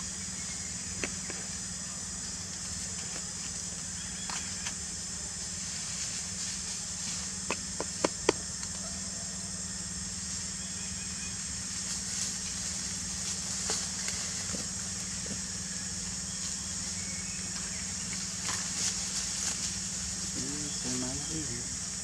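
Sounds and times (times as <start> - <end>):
low steady hum: 0.0 - 22.0
steady high hiss: 0.0 - 22.0.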